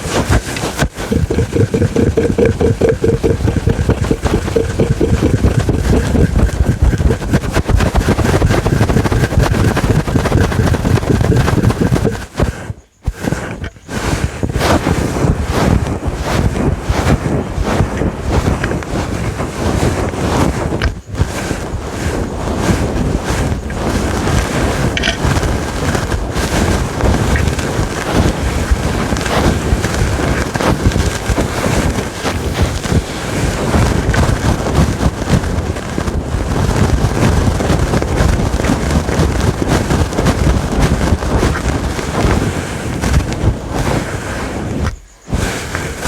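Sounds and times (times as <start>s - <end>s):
scratching on microphone windscreen: 0.0s - 46.0s.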